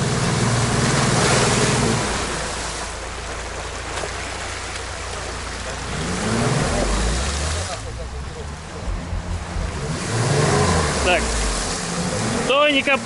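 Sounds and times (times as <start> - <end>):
engine running under load: 0.0 - 13.0
tyres splashing through slush: 0.0 - 13.0.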